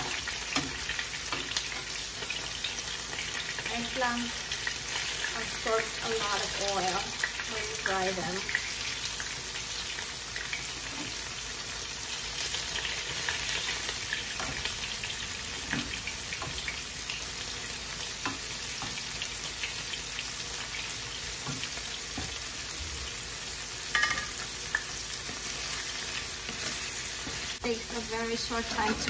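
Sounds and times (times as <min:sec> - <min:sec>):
eggplant sizzling in oil: 0:00.0 - 0:29.0.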